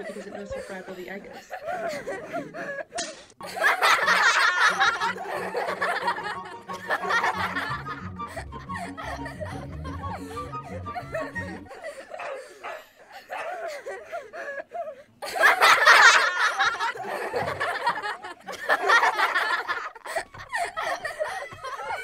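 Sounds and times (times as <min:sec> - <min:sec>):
people laughing and giggling: 0:00.0 - 0:22.0.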